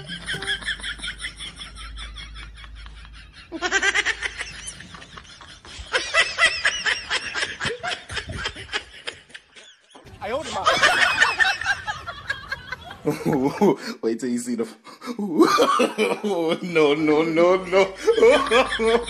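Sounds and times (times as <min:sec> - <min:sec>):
rhythmic pulsing laughter: 0:00.0 - 0:13.8, 0:15.3 - 0:19.0.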